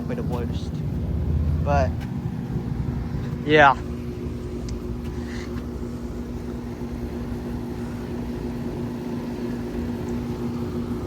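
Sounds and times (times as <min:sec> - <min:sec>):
compressor electrical hum: 0:00.0 - 0:11.0
condenser fan rushing: 0:00.0 - 0:11.0.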